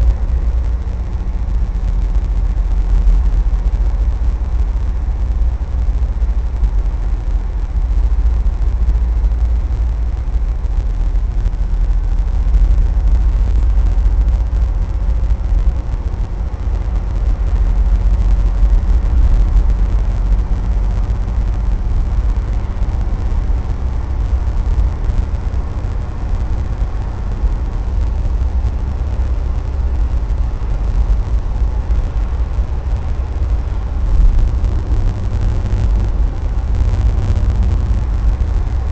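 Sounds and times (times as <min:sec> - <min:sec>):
car cabin road rumble: 0:00.0 - 0:38.9.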